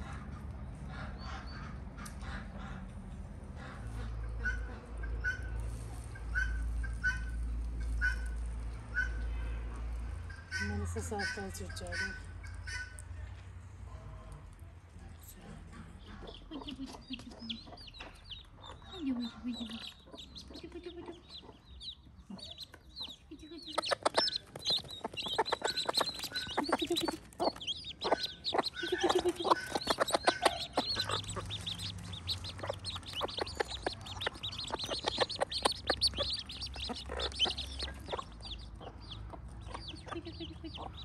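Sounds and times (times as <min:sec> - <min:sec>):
chickens clucking: 0:00.0 - 0:13.1, 0:15.2 - 0:41.0.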